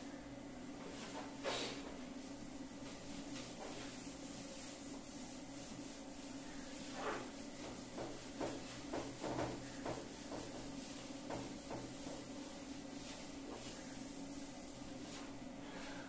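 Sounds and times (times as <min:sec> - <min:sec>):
eraser rubbing on whiteboard: 0:02.3 - 0:15.4.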